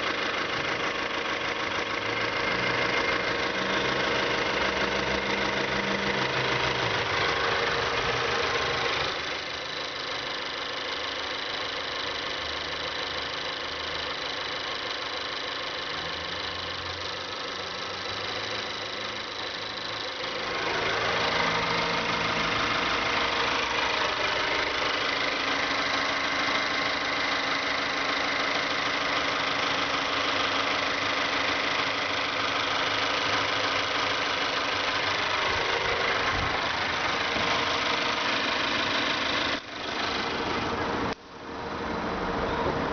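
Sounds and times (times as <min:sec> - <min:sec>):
car engine ticking: 0:00.0 - 0:42.9.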